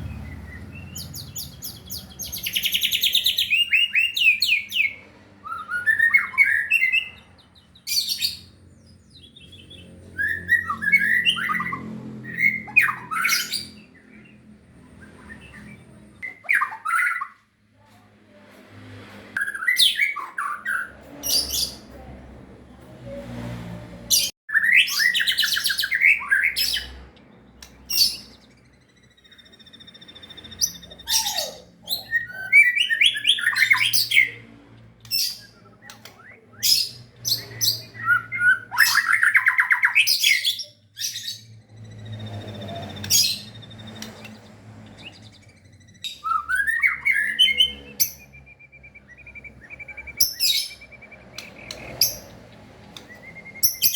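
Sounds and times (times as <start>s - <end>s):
songbird whistling and trilling: 0.0s - 14.3s, 19.4s - 21.8s, 24.5s - 34.4s, 35.0s - 53.9s.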